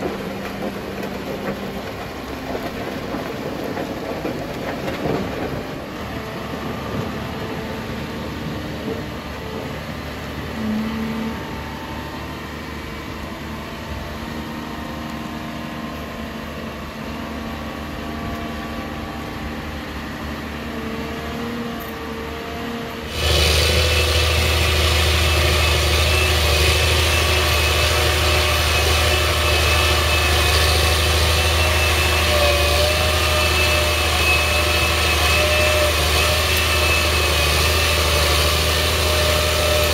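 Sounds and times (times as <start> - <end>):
crawler tractor engine under load: 0.0 - 39.9
diesel engine running: 0.0 - 39.9.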